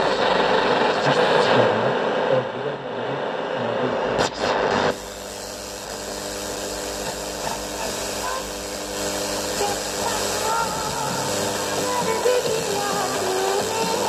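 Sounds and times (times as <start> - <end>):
faint hum: 0.0 - 14.0
hissing radio static: 0.0 - 14.0.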